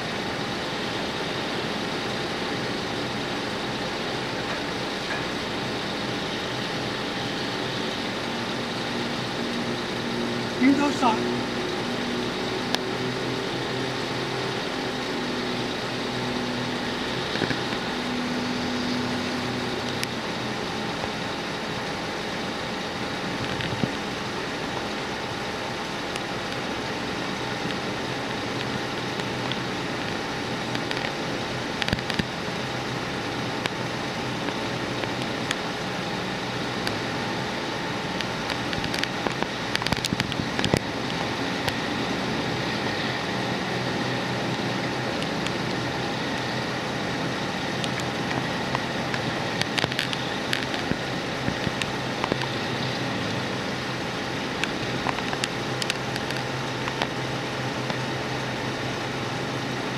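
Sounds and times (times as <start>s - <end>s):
engine running with low hum: 0.0s - 59.9s.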